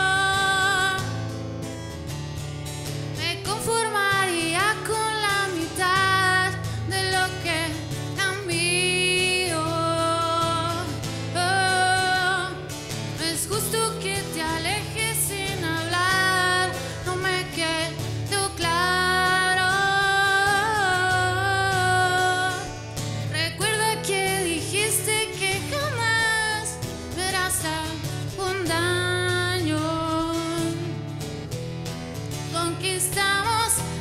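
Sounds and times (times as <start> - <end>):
woman singing pop ballad: 0.0 - 1.4, 3.2 - 31.2, 32.4 - 34.0
acoustic guitar: 0.0 - 34.0.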